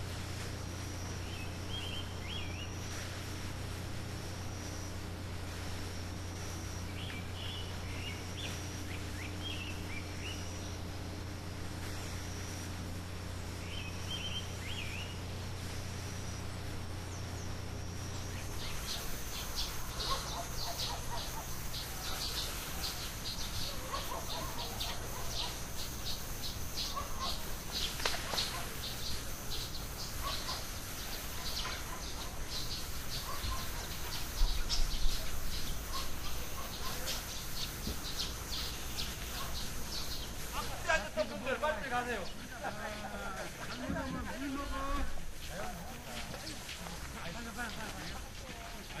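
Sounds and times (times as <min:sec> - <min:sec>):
low steady hum: 0:00.0 - 0:47.2
high insect-like drone: 0:00.0 - 0:49.0
birds chirping: 0:00.6 - 0:49.0.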